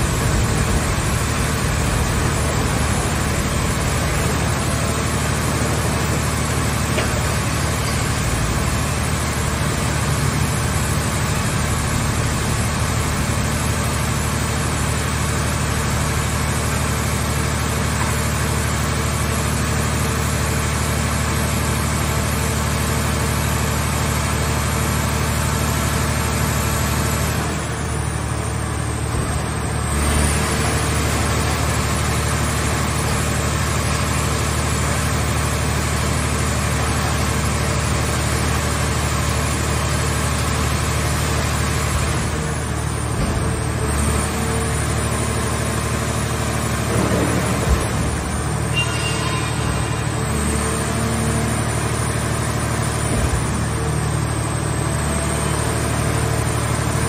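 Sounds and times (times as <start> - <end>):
engine and pump hum: 0.0 - 57.0.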